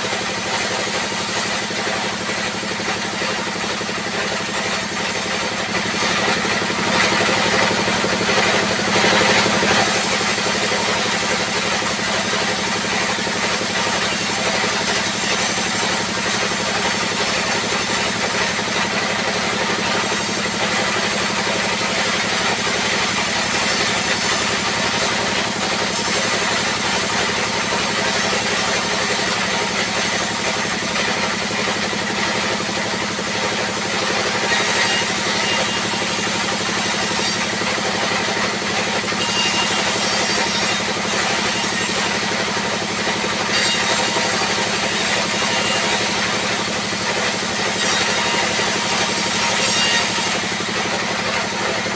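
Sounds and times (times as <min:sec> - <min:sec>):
sawmill saw running: 0:00.0 - 0:51.9.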